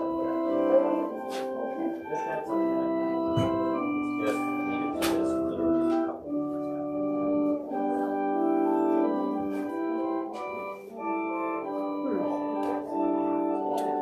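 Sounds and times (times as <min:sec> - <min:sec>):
slow organ music: 0:00.0 - 0:14.0.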